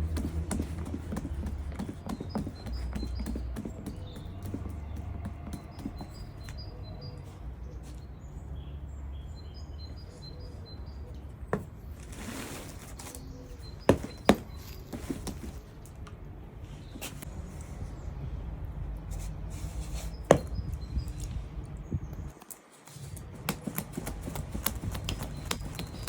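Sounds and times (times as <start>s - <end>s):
small birds chirping: 0.1s - 12.0s, 12.9s - 15.8s, 19.2s - 26.0s.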